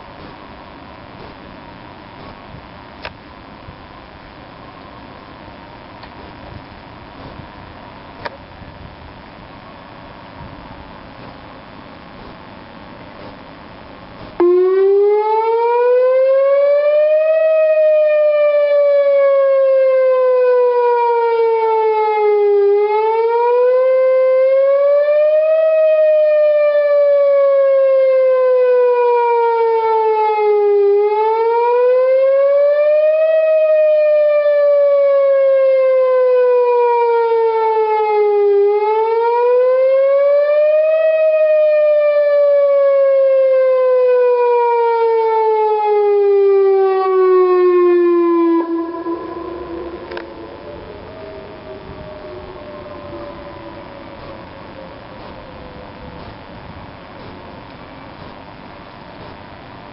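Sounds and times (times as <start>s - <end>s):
warning siren wailing: 0.0s - 11.9s, 13.7s - 59.4s.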